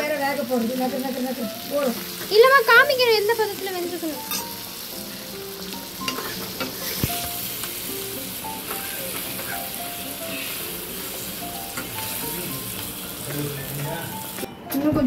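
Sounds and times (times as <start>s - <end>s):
vegetables sizzling in hot oil: 0.0s - 14.5s.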